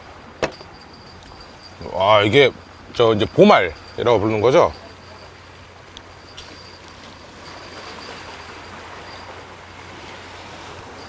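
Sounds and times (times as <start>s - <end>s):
low constant hum: 0.0s - 11.0s
sea washing against rocks: 0.0s - 11.0s.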